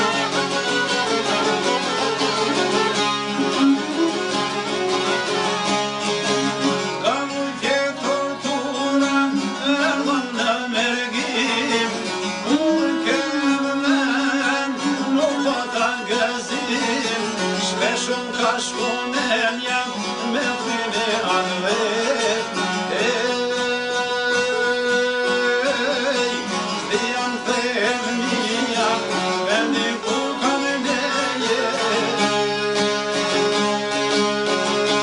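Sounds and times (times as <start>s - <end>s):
plucked lutes: 0.0s - 35.0s
violin: 0.0s - 35.0s
man singing: 6.7s - 35.0s.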